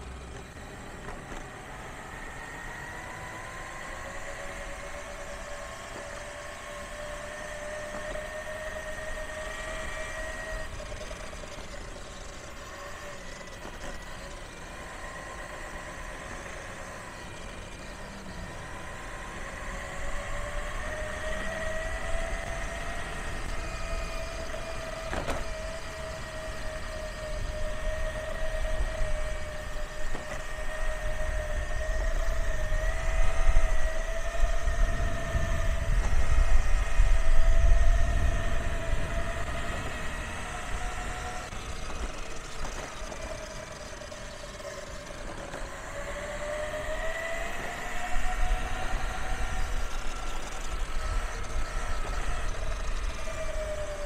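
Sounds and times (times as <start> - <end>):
gear drive whining: 0.0 - 54.0.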